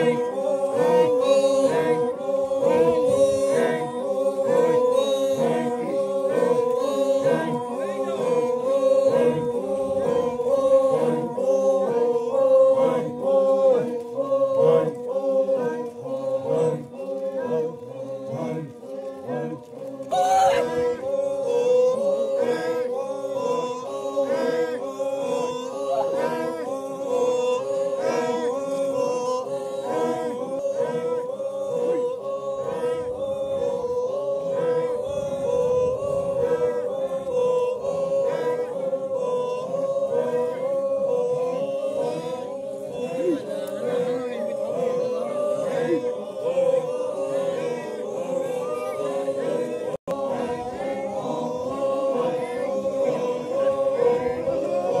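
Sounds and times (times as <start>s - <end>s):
men chanting in unison: 0.0s - 55.0s.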